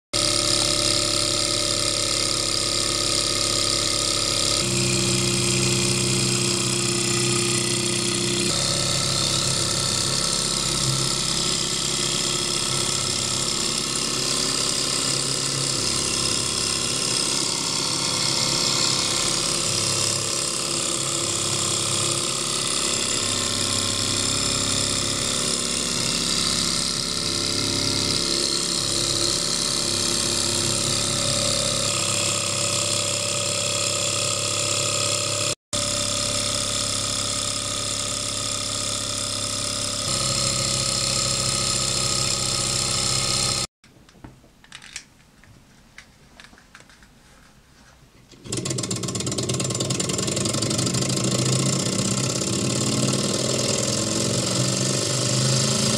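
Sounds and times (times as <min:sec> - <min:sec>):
small engine running steadily: 0:00.2 - 0:43.7, 0:48.4 - 0:55.9.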